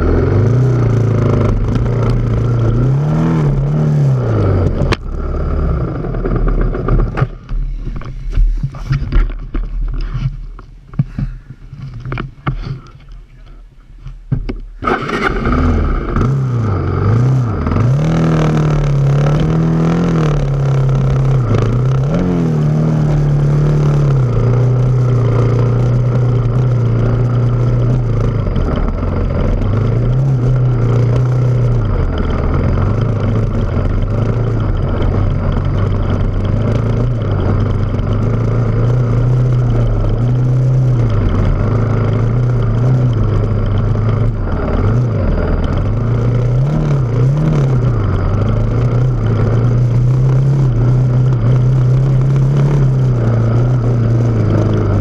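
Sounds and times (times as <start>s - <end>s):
off-road vehicle engine revving: 0.0s - 7.5s, 14.8s - 55.0s.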